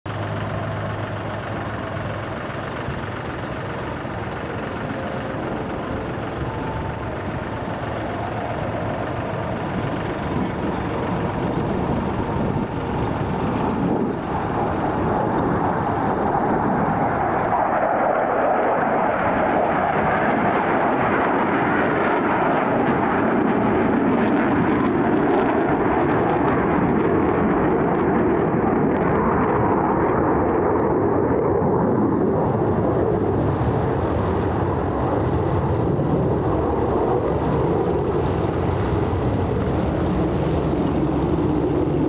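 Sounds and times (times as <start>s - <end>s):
jet engine rumble: 0.0s - 42.0s.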